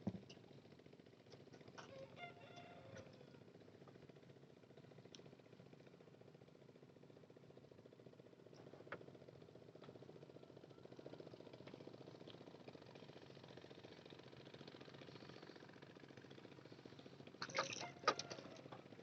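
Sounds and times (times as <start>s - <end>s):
faint engine hum: 0.0s - 19.0s.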